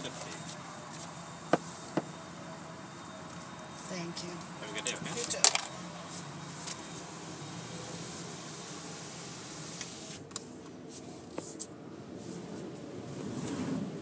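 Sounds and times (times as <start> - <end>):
car cabin hiss and hum: 0.0 - 14.0.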